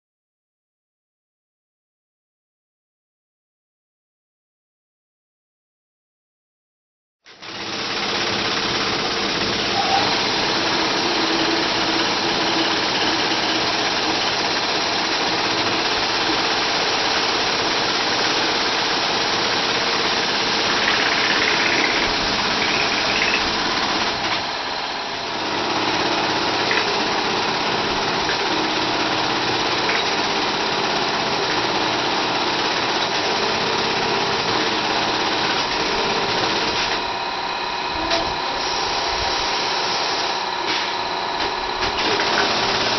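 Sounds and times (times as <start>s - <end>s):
tufting machine buzzing with whine: 7.6s - 32.6s, 33.3s - 42.9s.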